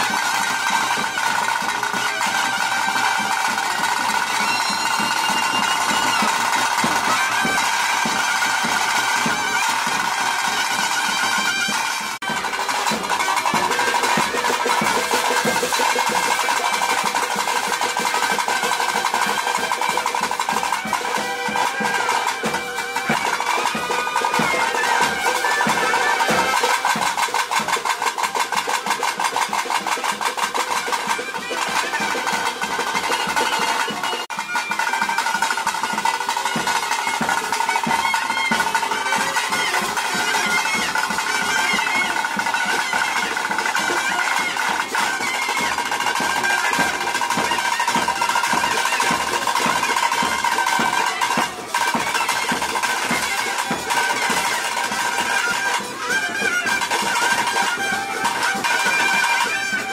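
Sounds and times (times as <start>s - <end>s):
fast dense drumming: 0.0s - 59.9s.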